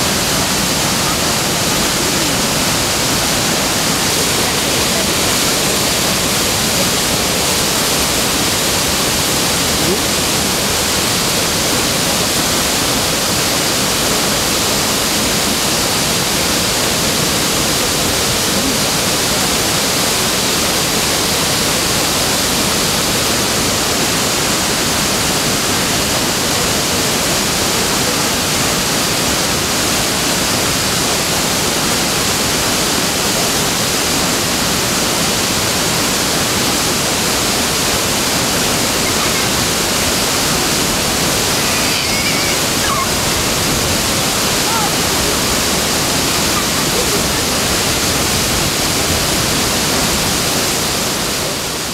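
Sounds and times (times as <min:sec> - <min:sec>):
waterfall rushing over rocks: 0:00.0 - 0:51.9.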